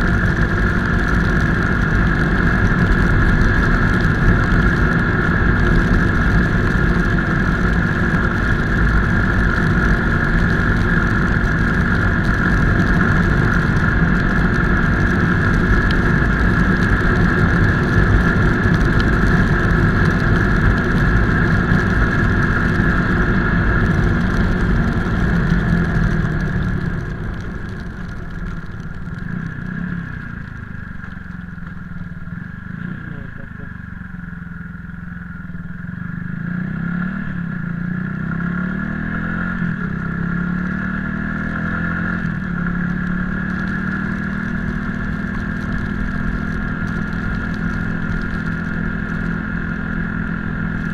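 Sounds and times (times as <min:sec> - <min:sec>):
motorcycle engine rumble: 0:00.0 - 0:50.9.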